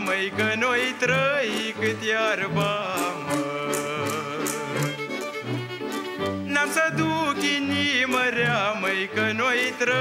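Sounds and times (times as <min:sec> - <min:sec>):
folk band playing: 0:00.0 - 0:10.0.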